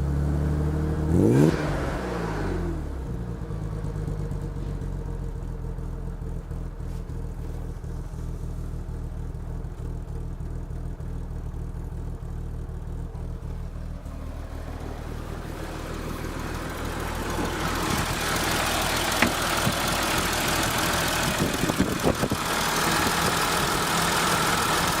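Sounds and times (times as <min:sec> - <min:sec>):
car exhaust idling: 0:01.9 - 0:25.0
exhaust pops: 0:03.8 - 0:25.0.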